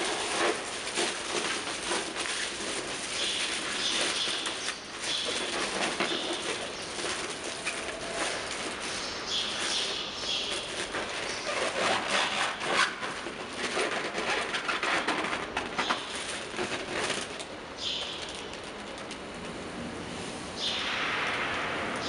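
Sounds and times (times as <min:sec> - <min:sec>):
plastic bag crinkling: 0:00.0 - 0:19.4.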